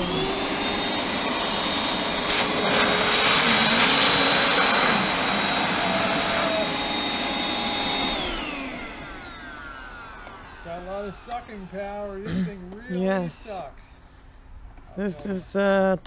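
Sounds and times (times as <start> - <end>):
vacuum cleaner whine: 0.0 - 13.7.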